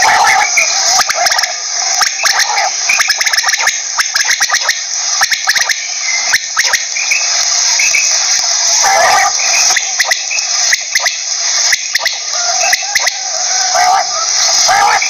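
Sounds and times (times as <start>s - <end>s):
quail calling: 0.0s - 7.2s, 8.8s - 15.0s.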